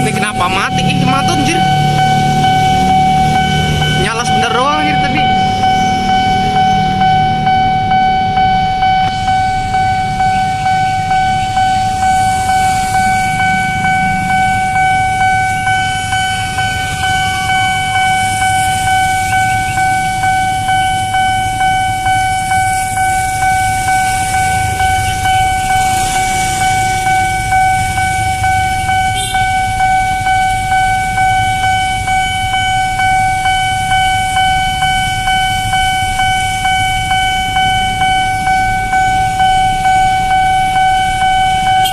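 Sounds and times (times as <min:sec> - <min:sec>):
level crossing alarm ringing: 0:00.0 - 0:41.9
traffic rumbling: 0:00.0 - 0:41.9.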